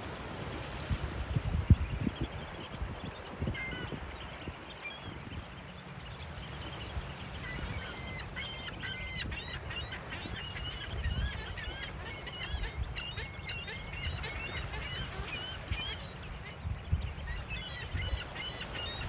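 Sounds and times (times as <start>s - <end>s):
gulls calling: 0.5s - 19.0s.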